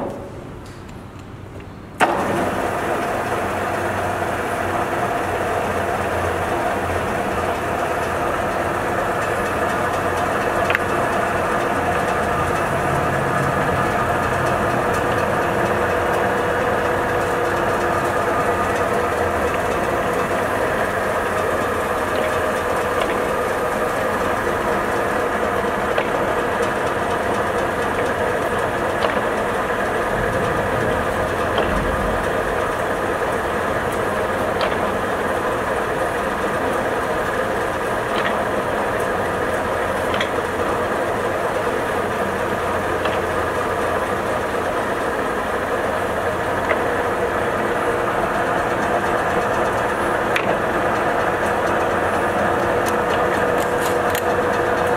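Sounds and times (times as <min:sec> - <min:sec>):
lathe headstock whirring: 0:02.0 - 0:54.9.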